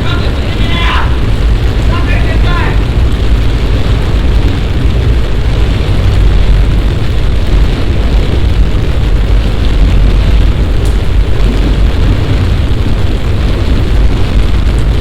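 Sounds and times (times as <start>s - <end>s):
deep rumble: 0.0s - 15.0s
heavy rain rushing: 0.0s - 15.0s.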